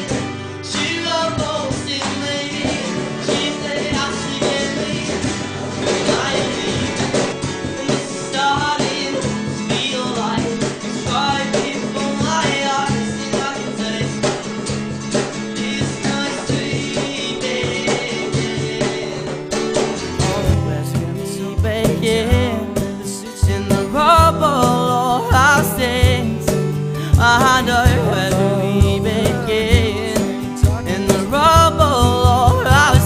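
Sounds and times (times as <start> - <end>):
cajon beat: 0.0 - 33.0
man singing: 0.0 - 33.0
strummed acoustic guitars: 0.0 - 33.0.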